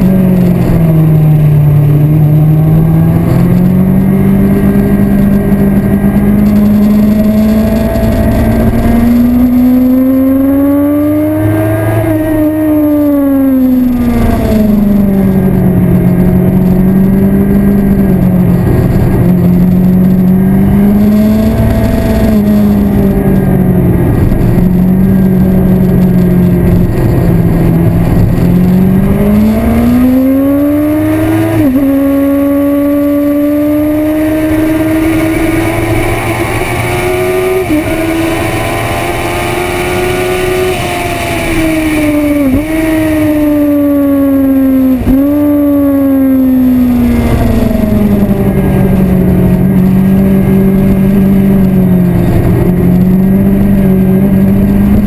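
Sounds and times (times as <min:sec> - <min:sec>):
motorcycle engine revving: 0:00.0 - 0:55.0
wind noise on microphone: 0:00.0 - 0:55.0.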